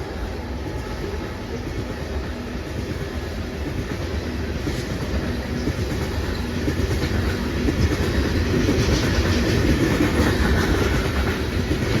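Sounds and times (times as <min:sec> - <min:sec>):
train wheels clattering: 0:00.7 - 0:12.0.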